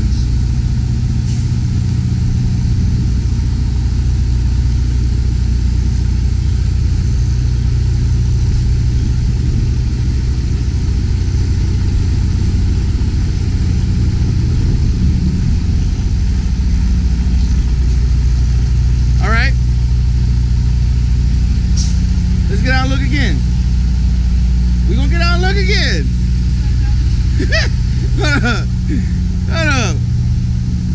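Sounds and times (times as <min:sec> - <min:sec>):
diesel engine running at low revs: 0:00.0 - 0:30.9.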